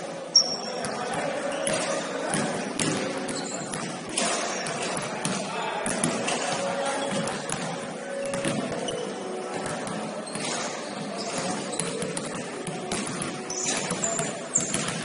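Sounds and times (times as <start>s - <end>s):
gym hall ambience: 0.0s - 15.0s
basketball bouncing on court: 1.7s - 15.0s.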